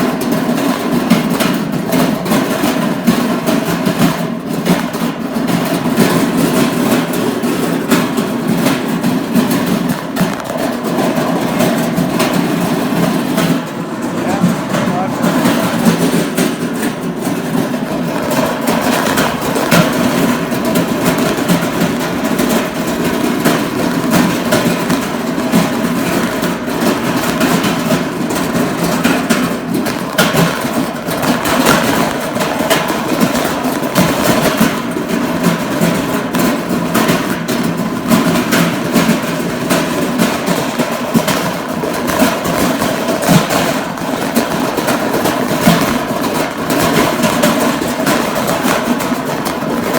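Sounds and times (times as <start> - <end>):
shopping cart rattling: 0.0 - 49.9.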